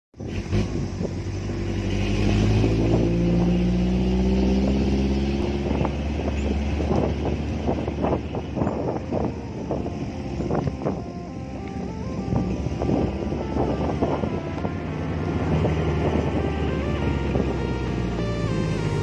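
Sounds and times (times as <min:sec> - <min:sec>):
motorcycle engine: 0:00.2 - 0:19.0.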